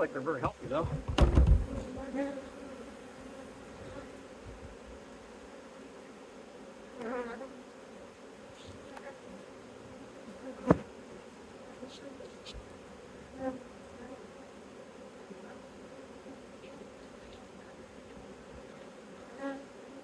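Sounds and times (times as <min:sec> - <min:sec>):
honeybees humming: 0:00.0 - 0:20.0
bee buzzing close past: 0:00.1 - 0:20.0.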